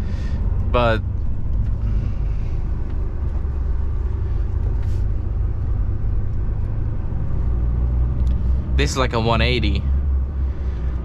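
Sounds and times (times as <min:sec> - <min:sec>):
road rumble: 0:00.0 - 0:11.0
truck diesel engine droning: 0:00.0 - 0:11.0.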